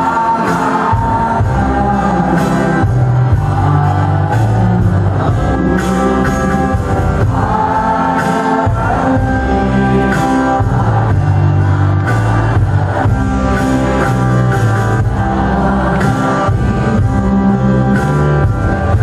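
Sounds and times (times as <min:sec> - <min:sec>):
person singing into microphone: 0:00.0 - 0:14.2, 0:14.9 - 0:19.0
instrumental backing with bass: 0:00.0 - 0:19.0.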